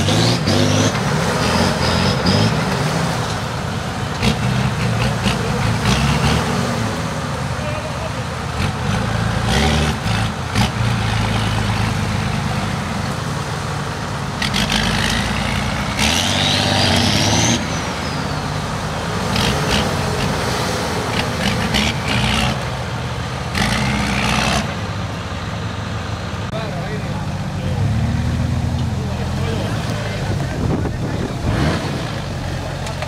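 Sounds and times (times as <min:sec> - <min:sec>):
off-road engines revving: 0:00.0 - 0:33.0.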